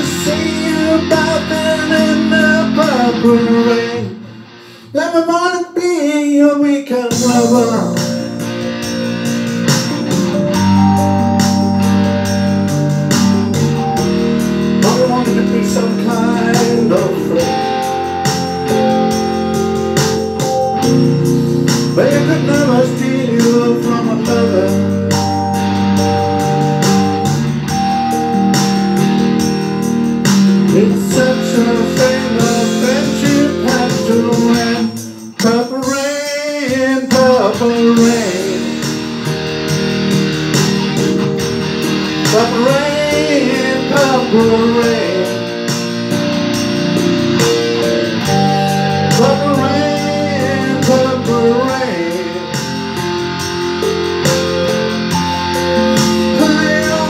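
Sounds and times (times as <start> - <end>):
electric guitar lead line: 0.0 - 5.8, 7.0 - 57.0
backing track of held chords: 0.0 - 57.0.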